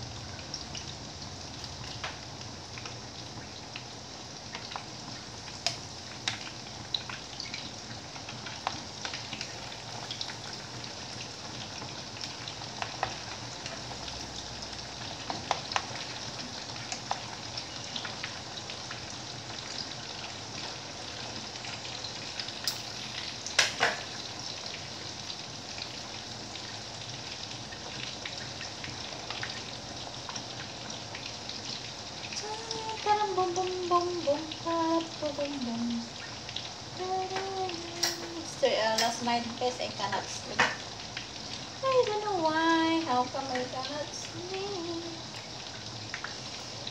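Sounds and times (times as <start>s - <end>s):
meat sizzling in a frying pan: 0.0s - 46.9s.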